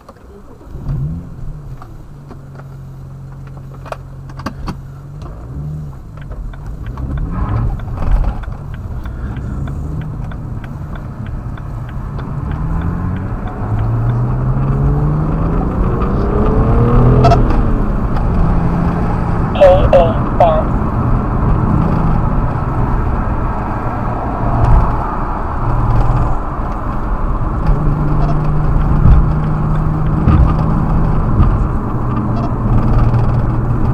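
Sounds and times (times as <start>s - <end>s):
car engine revving: 0.3s - 33.9s.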